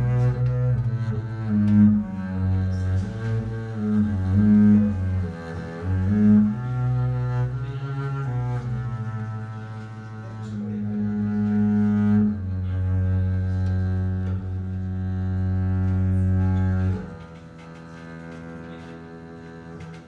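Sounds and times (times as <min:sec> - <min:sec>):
bowed double bass: 0:00.0 - 0:20.0.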